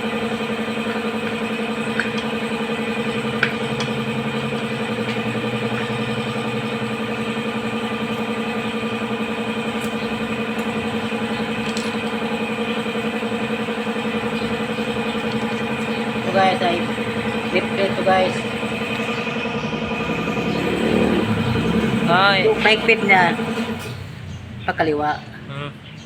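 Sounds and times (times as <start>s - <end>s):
small engine idling: 0.0s - 24.6s.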